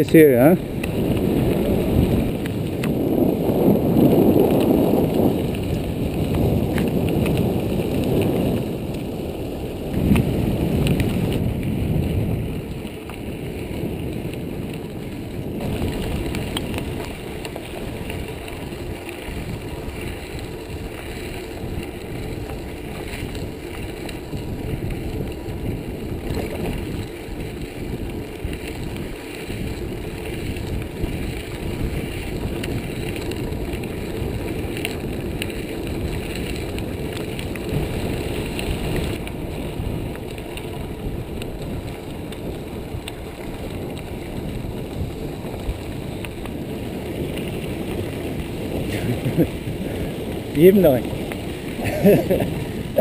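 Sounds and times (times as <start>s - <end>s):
bike tyres rumbling on rough ground: 0.0s - 53.0s
wind noise on microphone: 0.0s - 53.0s.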